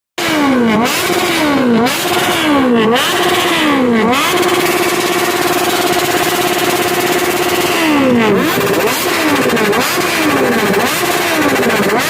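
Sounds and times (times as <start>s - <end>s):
vehicle engine revving: 0.2s - 12.0s.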